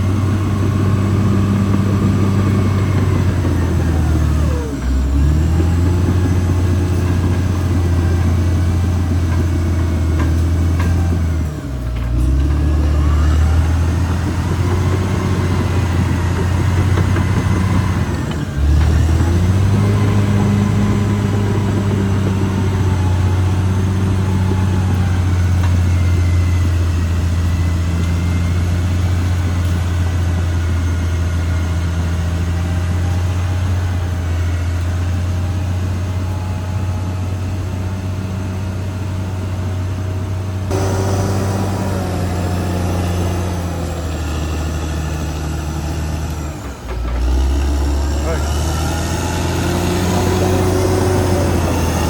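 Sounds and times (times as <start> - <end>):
bulldozer diesel engine droning: 0.0 - 52.0.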